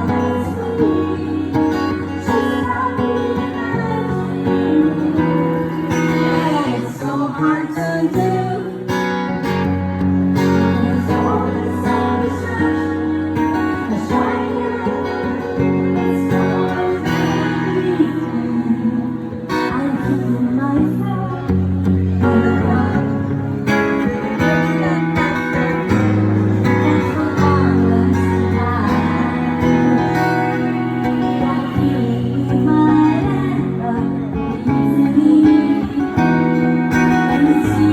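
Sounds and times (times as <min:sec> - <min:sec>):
acoustic guitar: 0:00.0 - 0:37.9
woman singing: 0:00.0 - 0:37.9.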